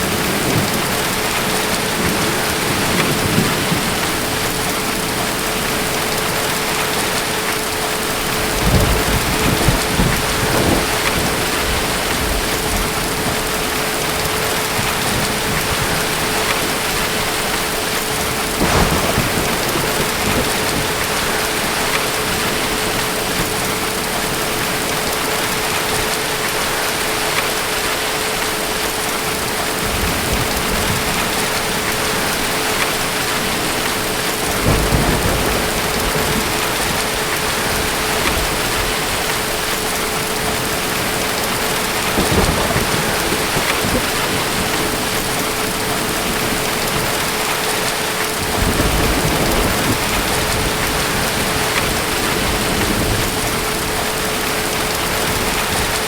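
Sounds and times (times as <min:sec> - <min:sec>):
distant thunder rumbling: 0:00.0 - 0:26.6, 0:29.4 - 0:56.0
heavy rain: 0:00.0 - 0:56.0.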